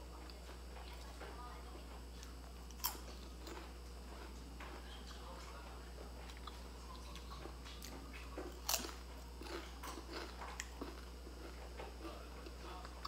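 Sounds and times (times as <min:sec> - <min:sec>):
crunchy chewing of fried pastry: 0:00.0 - 0:13.0.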